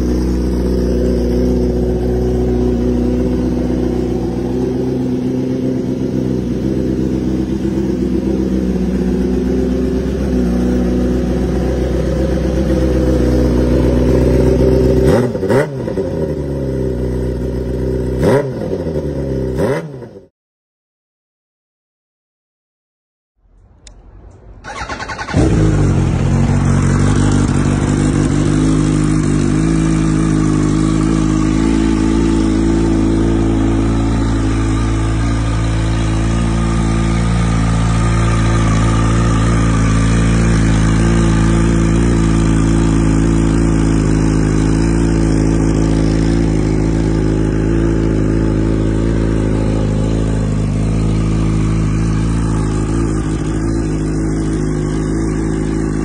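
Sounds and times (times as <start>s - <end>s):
motorcycle engine idling loudly: 0.0s - 19.6s, 24.7s - 56.0s.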